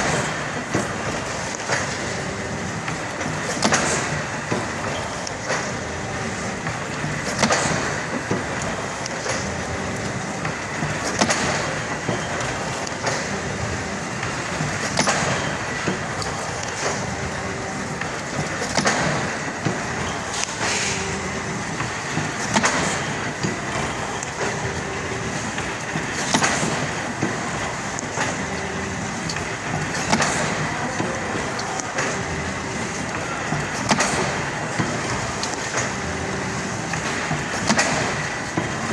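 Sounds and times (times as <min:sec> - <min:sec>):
machine mechanical clatter: 0:00.0 - 0:38.9.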